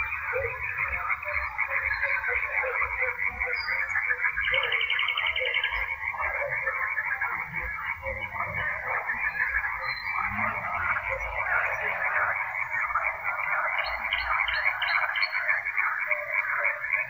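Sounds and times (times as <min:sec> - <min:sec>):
frog chorus: 0:00.0 - 0:17.0
nightingale singing: 0:00.0 - 0:17.0.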